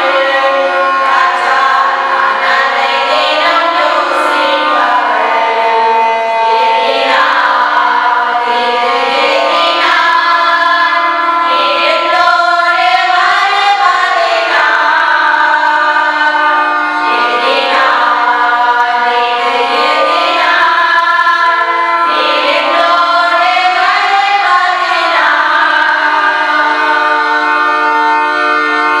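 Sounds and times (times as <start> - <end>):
sustained accompanying chords: 0.0 - 29.0
women's group singing a hymn: 0.0 - 29.0.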